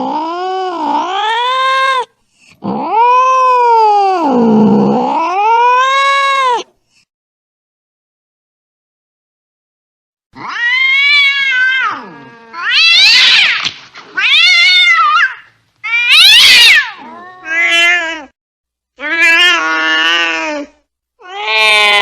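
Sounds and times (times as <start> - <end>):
angry cat yowling: 0.0 - 6.7, 10.4 - 18.4, 19.0 - 22.0.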